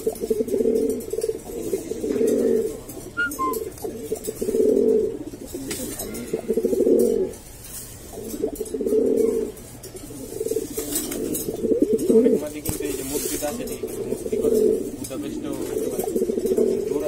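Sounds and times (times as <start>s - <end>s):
pigeon cooing: 0.0s - 17.0s.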